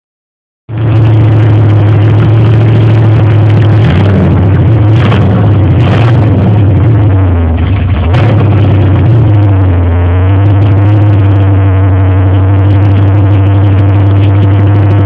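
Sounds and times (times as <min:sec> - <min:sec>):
car engine running loud: 0:00.7 - 0:15.0.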